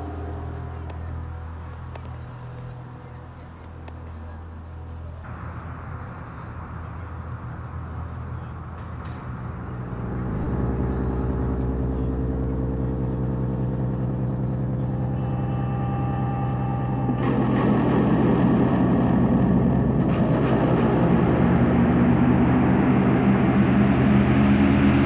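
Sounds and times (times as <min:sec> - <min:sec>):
low engine-like drone: 0:00.0 - 0:25.0.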